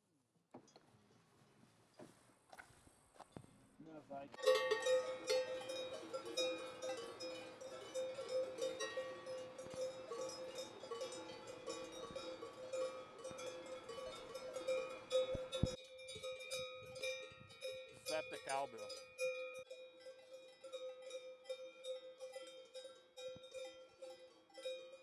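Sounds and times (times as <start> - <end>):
cowbell clanking: 4.4 - 25.0.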